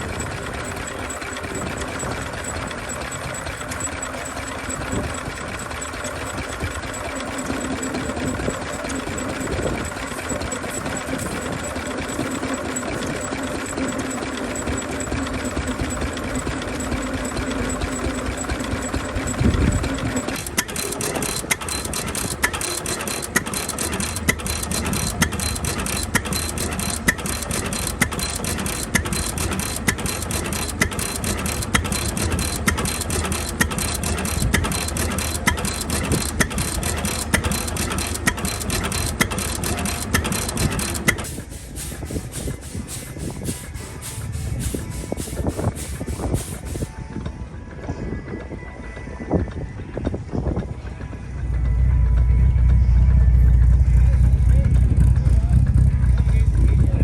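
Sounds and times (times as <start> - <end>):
engine with sharp knocks: 0.0 - 47.4, 49.9 - 57.0
engine drone: 0.0 - 57.0.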